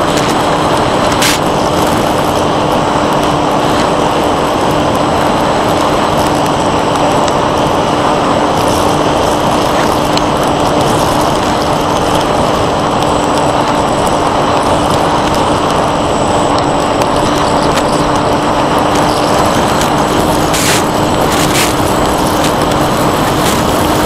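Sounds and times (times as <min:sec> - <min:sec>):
electric motor and propeller: 0:00.0 - 0:24.0
wind rushing over airframe: 0:00.0 - 0:24.0.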